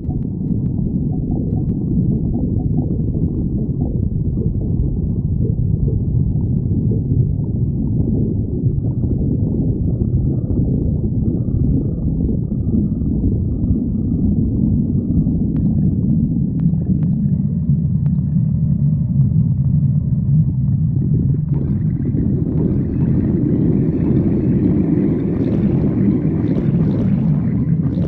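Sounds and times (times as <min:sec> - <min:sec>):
stomach growling: 0:00.0 - 0:28.0.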